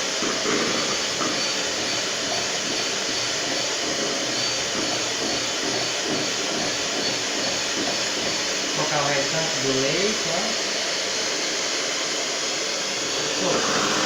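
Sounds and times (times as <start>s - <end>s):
electric mixer whirring: 0.0s - 14.0s.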